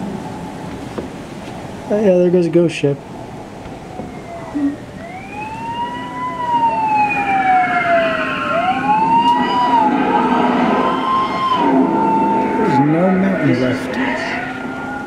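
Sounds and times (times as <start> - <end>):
storm wind howling and whistling: 0.0 - 15.0.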